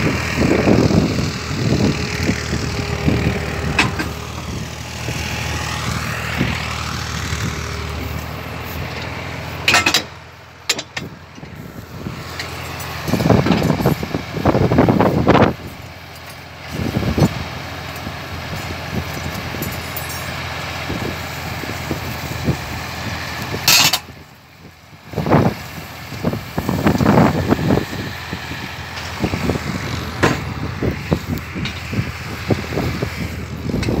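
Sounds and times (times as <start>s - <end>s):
engine running machinery: 0.0s - 34.0s.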